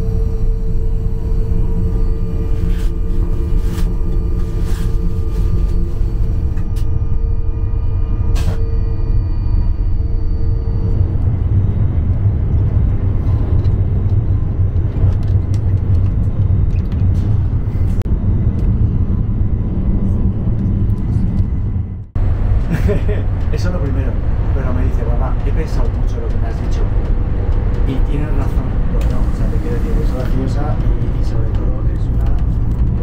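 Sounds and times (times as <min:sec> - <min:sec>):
steady hum: 0:00.0 - 0:33.0
train rumble inside carriage: 0:00.0 - 0:33.0.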